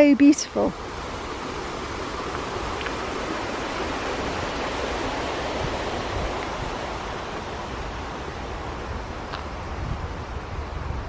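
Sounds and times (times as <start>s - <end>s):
wind buffeting microphone: 0.0s - 11.0s
wind rushing: 0.7s - 11.0s.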